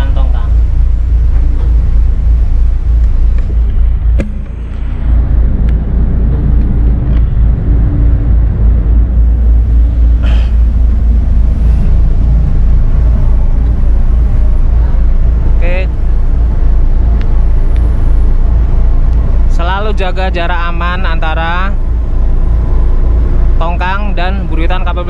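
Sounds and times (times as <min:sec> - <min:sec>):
diesel engines droning: 0:00.0 - 0:25.0.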